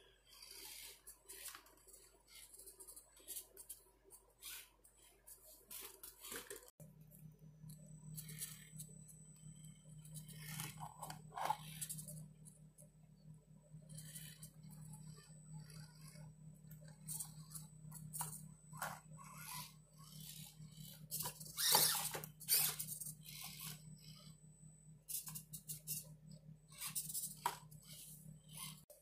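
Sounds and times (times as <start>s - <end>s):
toy car motor humming: 0.0s - 6.7s, 8.0s - 12.6s, 13.2s - 24.4s, 25.0s - 29.0s.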